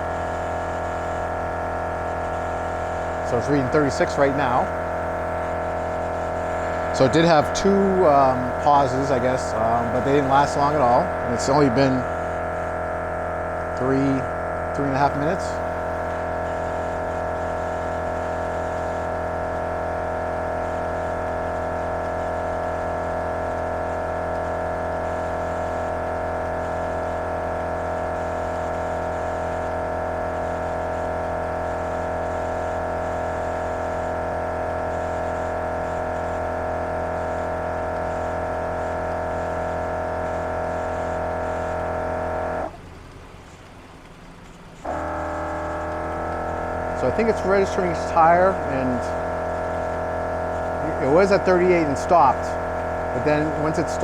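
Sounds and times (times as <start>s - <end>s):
air compressor humming: 0.0s - 54.0s.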